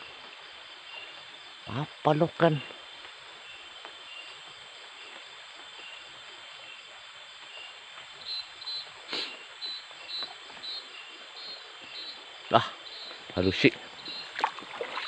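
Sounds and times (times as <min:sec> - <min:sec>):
insects: 0:00.0 - 0:15.0
stream hiss: 0:00.0 - 0:15.0.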